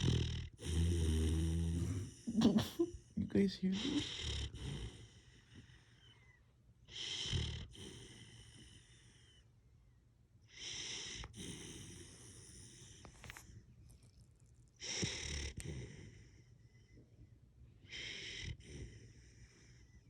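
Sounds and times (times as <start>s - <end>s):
puppy snoring: 0.0s - 9.5s, 10.4s - 17.2s, 17.8s - 20.0s.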